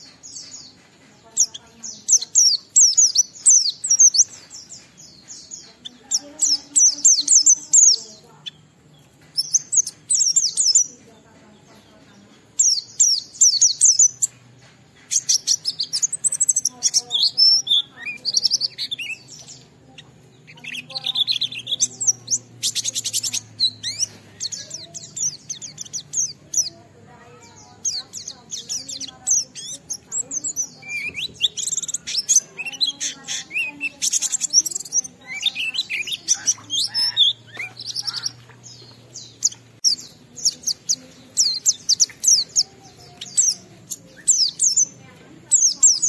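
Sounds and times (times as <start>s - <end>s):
bird twittering chirps: 0.0s - 46.0s.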